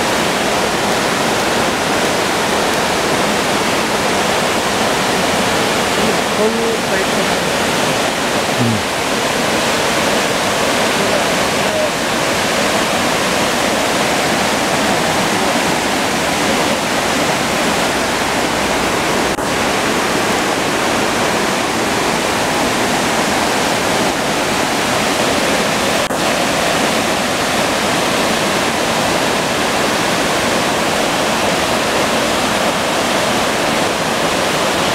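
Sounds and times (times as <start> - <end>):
waterfall and stream rushing: 0.0 - 34.9.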